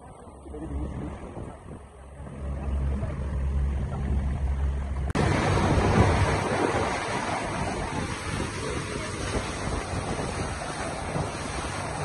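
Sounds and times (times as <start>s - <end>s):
boat engine humming: 0.0s - 12.0s
water against a hull: 0.0s - 12.0s
wind on the microphone: 0.0s - 12.0s.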